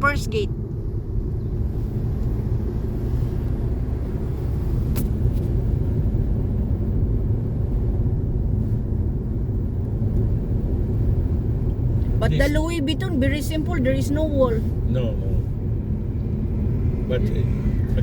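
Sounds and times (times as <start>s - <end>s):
car driving rumble from inside: 0.0s - 18.0s.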